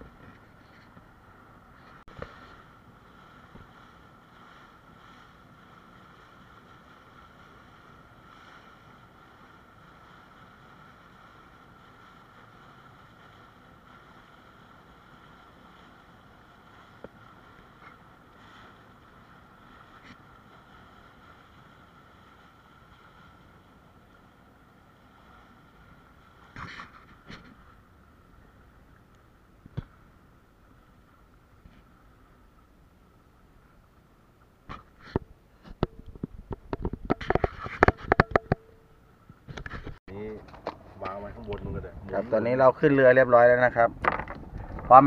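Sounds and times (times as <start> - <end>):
small boat engine hum: 0.0 - 44.9
water noise: 0.0 - 45.0.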